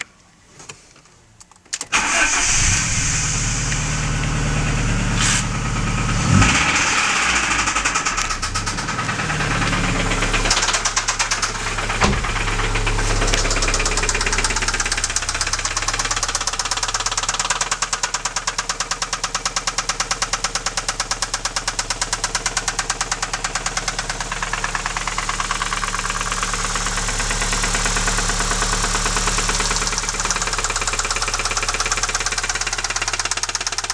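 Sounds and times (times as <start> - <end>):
car engine starting: 1.9 - 33.9
rhythmic metallic engine knock: 5.7 - 33.9.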